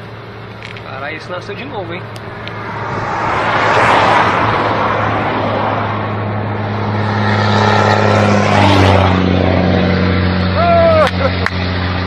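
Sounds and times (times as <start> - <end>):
engine hum: 0.0 - 12.0
passing traffic rush: 0.0 - 12.0.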